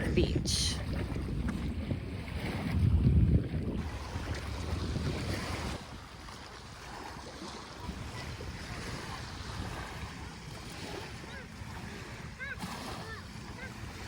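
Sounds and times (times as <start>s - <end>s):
small waves washing ashore: 0.0s - 14.0s
wind buffeting microphone: 0.0s - 14.0s.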